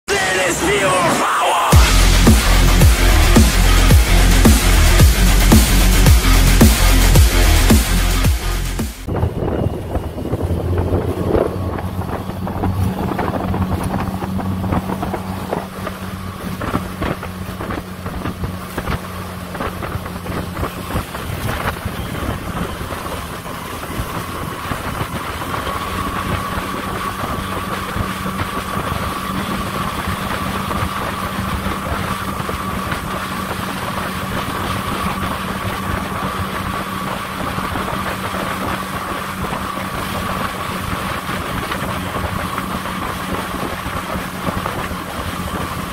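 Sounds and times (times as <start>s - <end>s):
high steady whine: 0.1s - 45.9s
outboard motor running: 1.7s - 45.9s
water splashing: 8.8s - 45.9s
wind: 9.0s - 45.9s.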